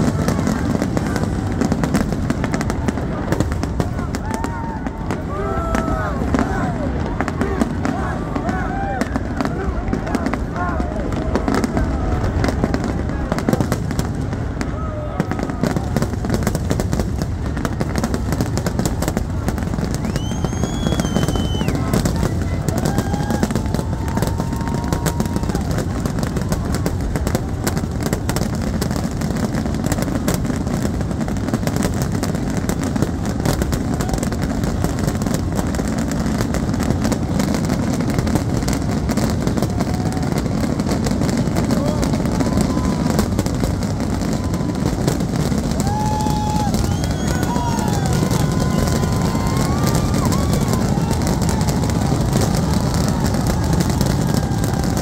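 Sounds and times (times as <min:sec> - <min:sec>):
fireworks barrage: 0:00.0 - 0:55.0.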